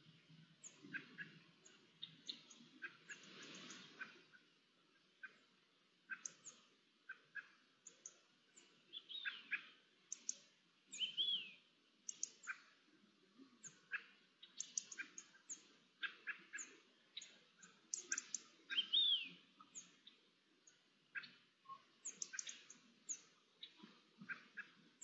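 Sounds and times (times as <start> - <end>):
birds chirping: 0.1 - 25.0.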